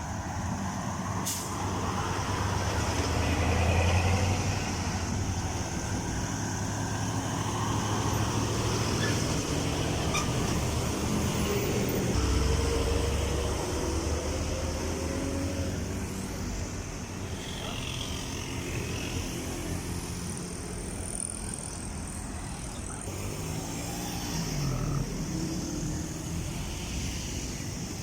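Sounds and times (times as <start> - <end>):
truck and car engines: 0.0 - 28.0
tyre noise of passing vehicles: 0.0 - 28.0.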